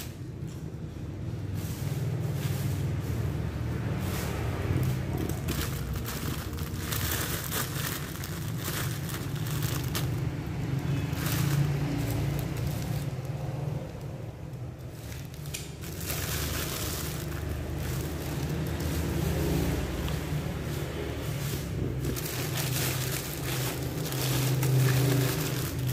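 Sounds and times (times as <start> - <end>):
plastic bag crinkling: 3.2 - 25.9.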